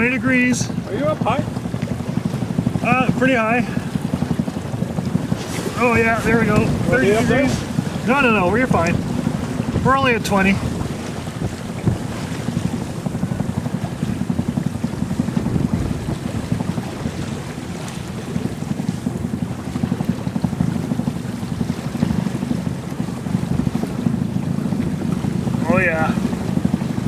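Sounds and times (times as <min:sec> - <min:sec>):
water rushing along hull: 0:00.0 - 0:27.0
wind buffeting microphone: 0:00.0 - 0:27.0.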